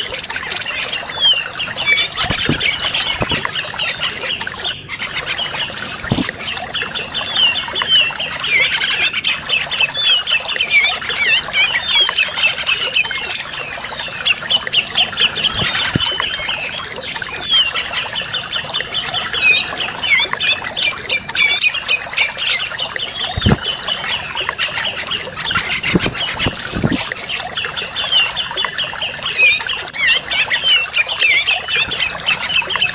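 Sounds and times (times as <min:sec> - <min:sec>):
birds chattering: 0:00.0 - 0:32.9.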